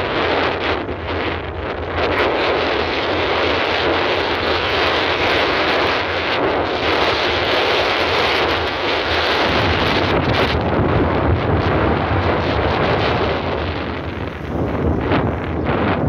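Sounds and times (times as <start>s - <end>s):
road noise: 0.0s - 16.0s
wind roaring across microphone: 0.0s - 16.0s.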